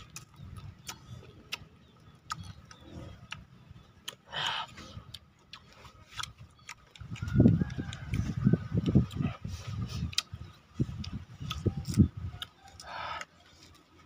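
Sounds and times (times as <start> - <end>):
chewing and lip-smacking: 0.0 - 14.0.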